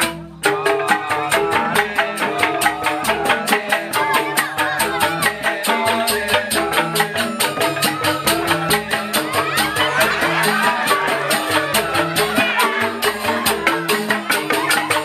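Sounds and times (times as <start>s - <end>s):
bamboo xylophones struck with mallets: 0.0s - 15.0s
hand drum: 0.0s - 15.0s.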